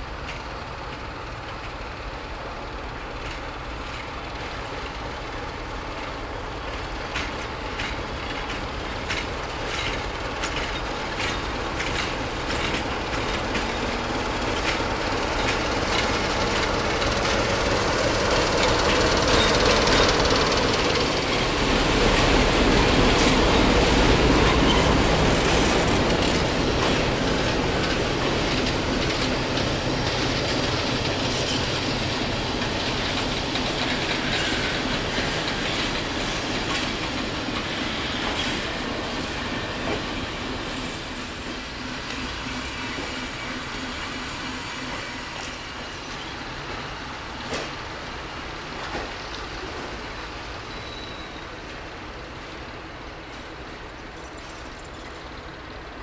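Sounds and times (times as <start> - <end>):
train wheels clacking over rail joints: 3.0 - 52.0.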